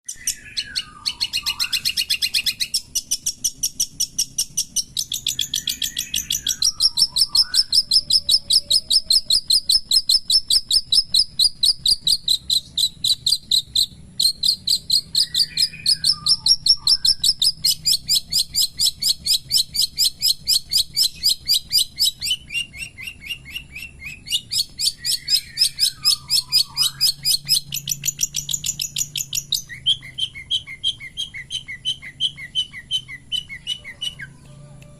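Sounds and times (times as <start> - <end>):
bird singing sharp high chirps: 0.0 - 34.7.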